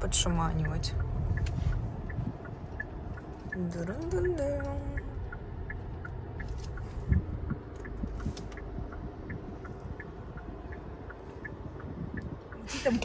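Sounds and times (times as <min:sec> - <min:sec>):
faint regular ticking: 0:00.0 - 0:13.0
vehicle rumble: 0:00.0 - 0:13.0.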